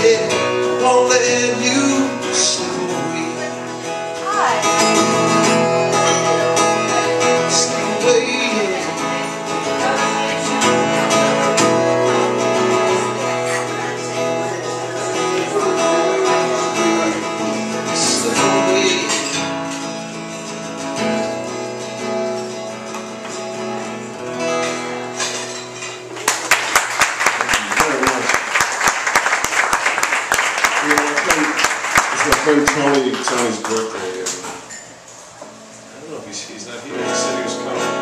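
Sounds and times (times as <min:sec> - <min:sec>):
acoustic guitar chords: 0:00.0 - 0:38.0.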